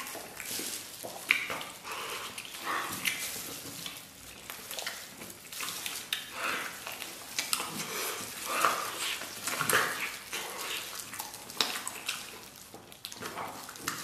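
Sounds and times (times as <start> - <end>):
wet chewing and smacking: 0.0 - 14.0.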